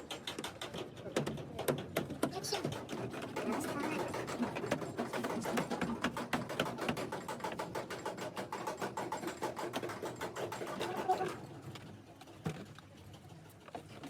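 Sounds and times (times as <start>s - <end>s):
rapid mechanical clicking: 0.0s - 11.8s.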